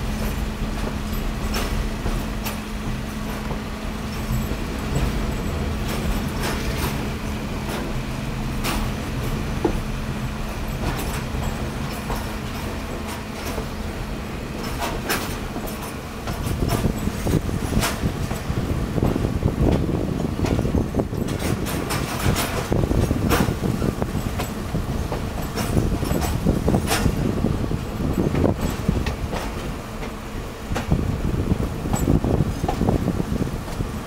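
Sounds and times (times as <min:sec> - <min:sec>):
train rumble and hum: 0:00.0 - 0:34.0.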